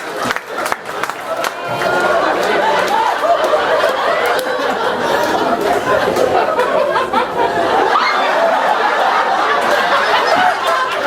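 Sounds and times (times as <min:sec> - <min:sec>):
audience laughter: 0:00.0 - 0:11.0
voices talking over each other: 0:01.2 - 0:11.0.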